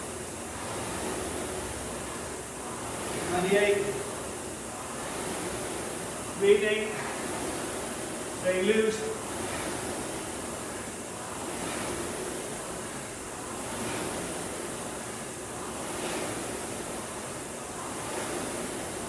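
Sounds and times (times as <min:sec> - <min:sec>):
rowing machine flywheel whooshing: 0:00.0 - 0:19.0.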